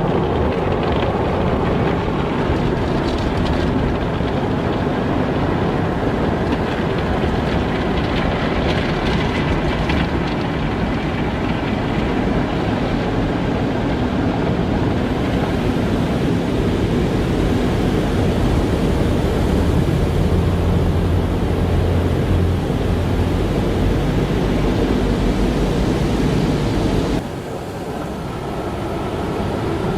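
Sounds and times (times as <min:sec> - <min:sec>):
car wash machinery rushing: 0:00.0 - 0:29.9
low hum: 0:05.5 - 0:29.9.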